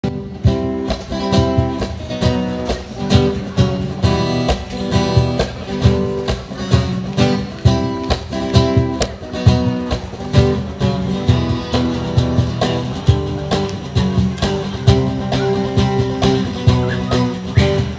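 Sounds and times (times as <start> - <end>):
acoustic guitar strumming: 0.0 - 17.9.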